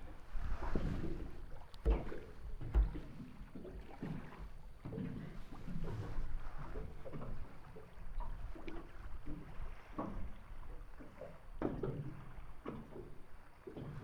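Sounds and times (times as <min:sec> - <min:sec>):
water slapping against boat hull: 0:00.0 - 0:14.0.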